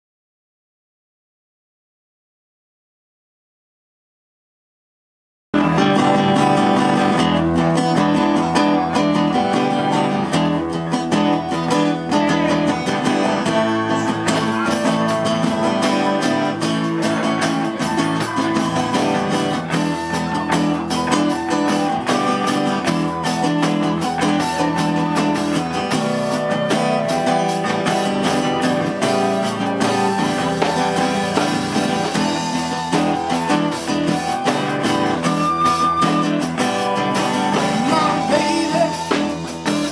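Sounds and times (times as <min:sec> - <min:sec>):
drum kit: 0:05.6 - 0:39.9
electric bass: 0:05.6 - 0:39.9
flute: 0:05.6 - 0:39.9
strummed acoustic guitar: 0:05.6 - 0:39.9.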